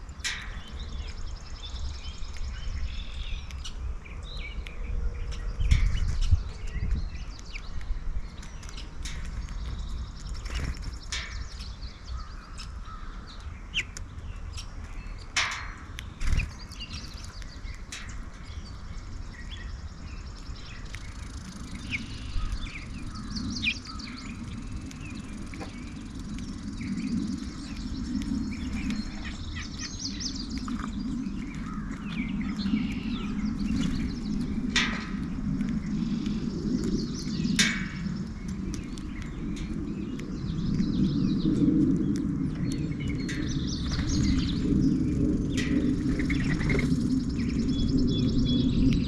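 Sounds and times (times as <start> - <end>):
low steady hum: 0.0 - 49.0
songbirds chirping: 0.0 - 49.0.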